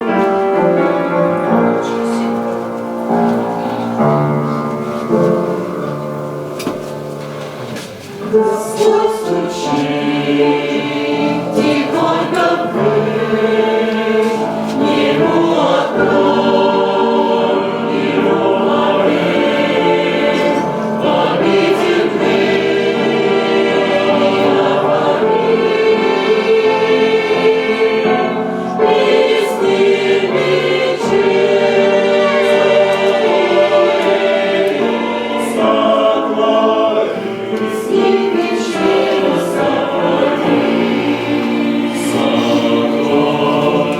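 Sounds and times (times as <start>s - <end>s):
church choir singing: 0.0s - 43.9s.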